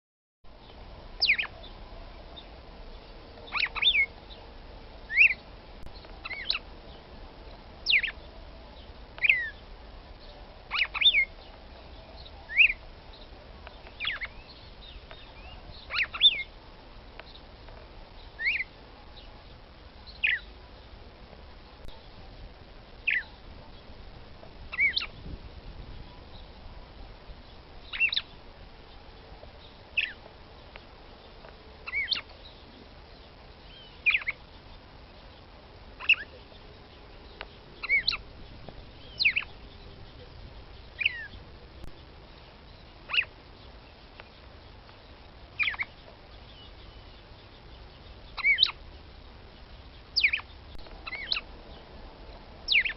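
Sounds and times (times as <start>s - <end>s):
faint steady hiss: 0.5s - 52.9s.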